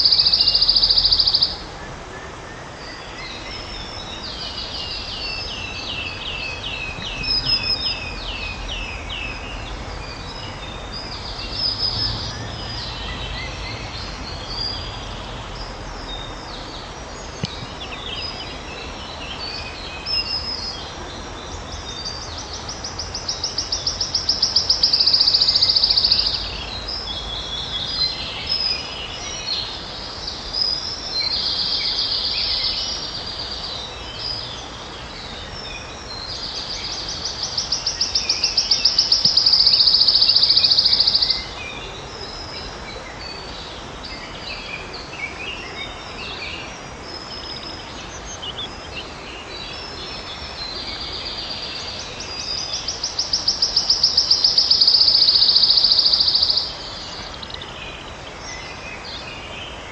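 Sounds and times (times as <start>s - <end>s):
warbler singing trills: 0.0s - 59.9s.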